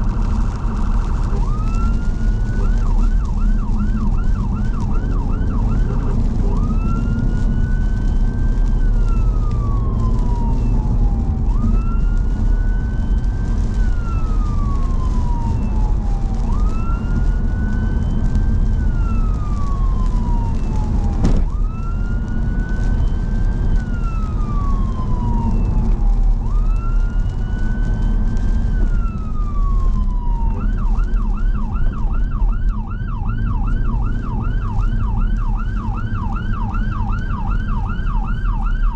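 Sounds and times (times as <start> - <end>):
engine and wet-road tyre noise: 0.0 - 38.9
siren yelping and wailing: 0.1 - 38.9.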